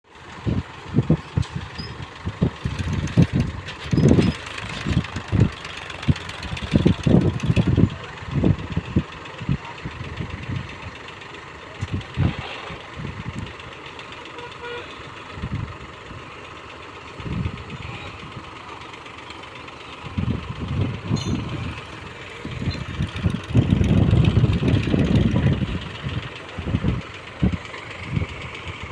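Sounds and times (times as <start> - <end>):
heavy machinery engines running: 0.1 - 28.9.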